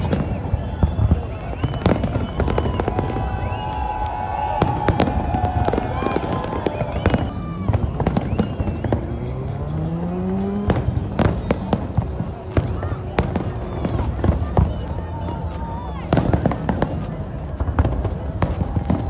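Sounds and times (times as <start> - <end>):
crowd voices: 0.0 - 19.0
fireworks bangs and crackles: 0.0 - 19.0.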